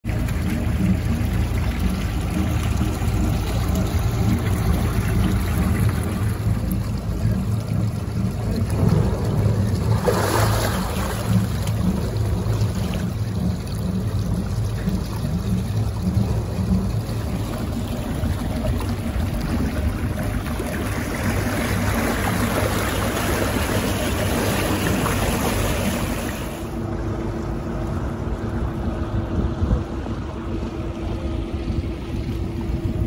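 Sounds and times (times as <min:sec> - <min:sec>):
cooling water splashing: 0:00.0 - 0:27.0
boat engine low pulsing hum: 0:00.0 - 0:33.0
churned water rushing: 0:00.0 - 0:33.0.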